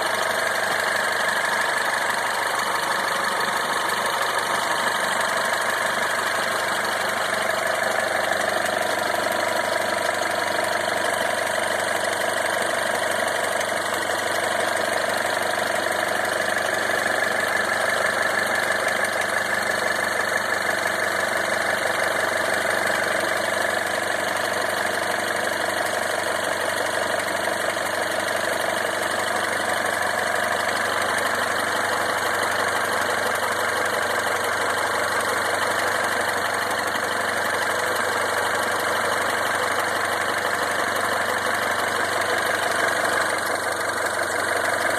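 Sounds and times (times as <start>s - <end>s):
car engine idling with clatter: 0.0s - 44.9s.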